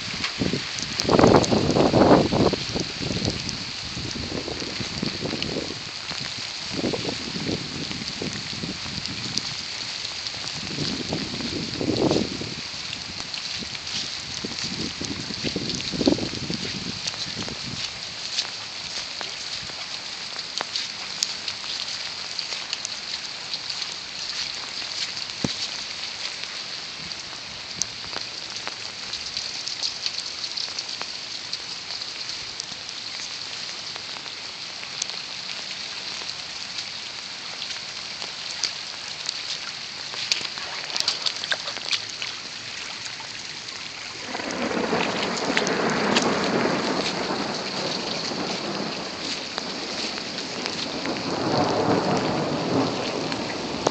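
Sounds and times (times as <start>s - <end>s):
heavy rain hissing: 0.0s - 53.9s
sharp raindrop ticks: 0.0s - 53.9s.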